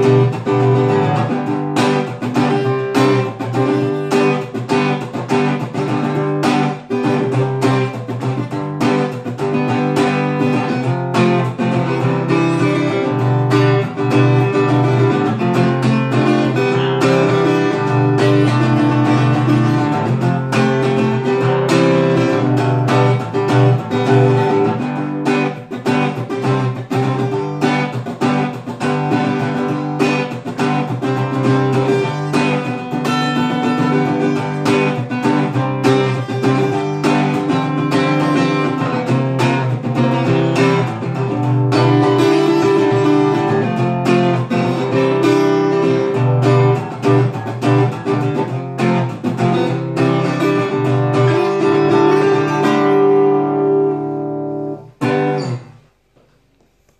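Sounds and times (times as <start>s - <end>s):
acoustic guitar chords: 0.0s - 56.9s.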